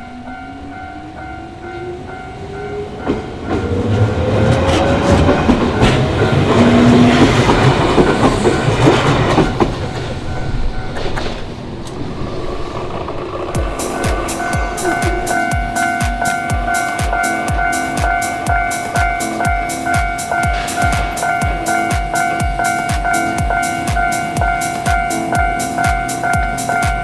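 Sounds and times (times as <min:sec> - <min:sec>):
level crossing warning bell: 0:00.0 - 0:11.2, 0:13.6 - 0:27.0
electric train motor whine: 0:00.0 - 0:27.0
train wheels clattering on rails: 0:00.0 - 0:27.0.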